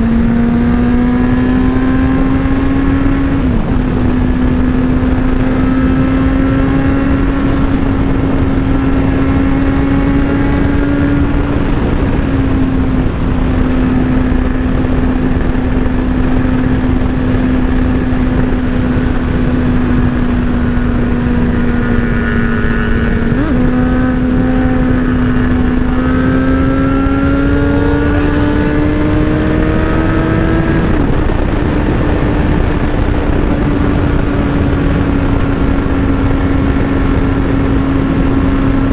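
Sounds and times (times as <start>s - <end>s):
heavy rushing wind: 0.0s - 38.9s
motorcycle engine running: 0.0s - 38.9s.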